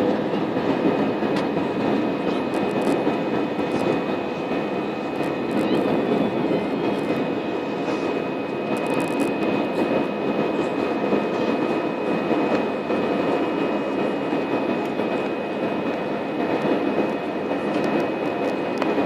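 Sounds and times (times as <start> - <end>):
jet engine and airflow rush: 0.0 - 19.0.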